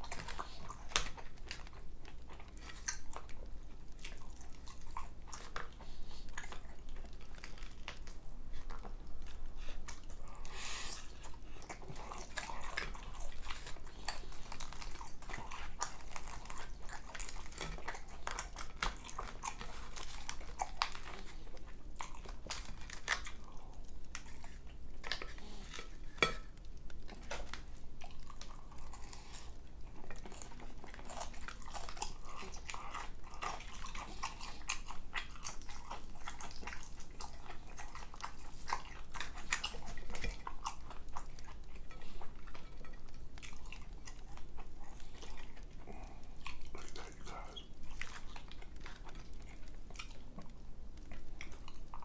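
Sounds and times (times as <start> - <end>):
chewing and mouth smacks: 0.0 - 52.0.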